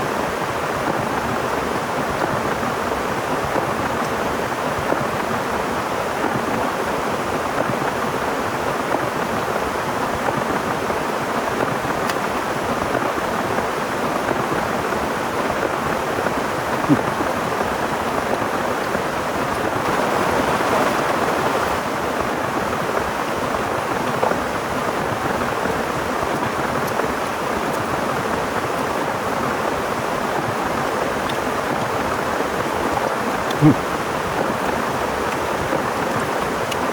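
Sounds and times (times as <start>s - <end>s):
heavy rain falling: 0.6s - 36.9s.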